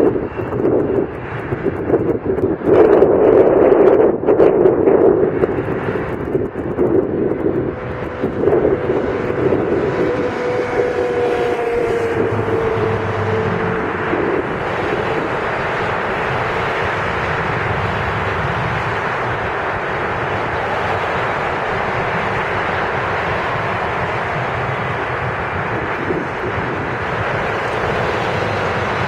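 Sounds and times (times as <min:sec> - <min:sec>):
jet engine roar with whine: 0:00.0 - 0:29.0
wind buffeting microphone: 0:00.0 - 0:29.0.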